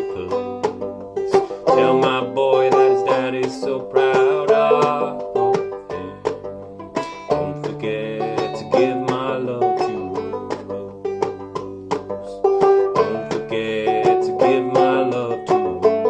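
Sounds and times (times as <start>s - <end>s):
banjo playing country tune: 0.0s - 16.0s.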